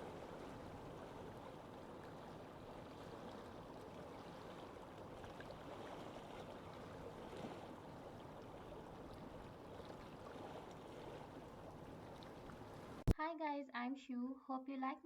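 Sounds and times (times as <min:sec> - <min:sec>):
water lapping: 0:00.0 - 0:13.1
wind: 0:00.0 - 0:13.1.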